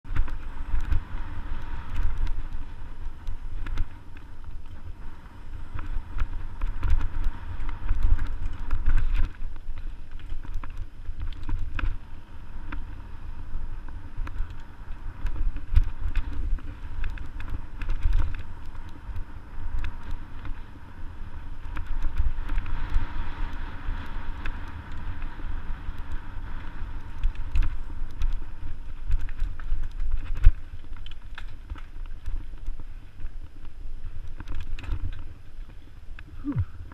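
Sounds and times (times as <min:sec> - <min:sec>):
bike rattles and clicks: 0:00.0 - 0:36.9
wind rumble on microphone: 0:00.0 - 0:36.9.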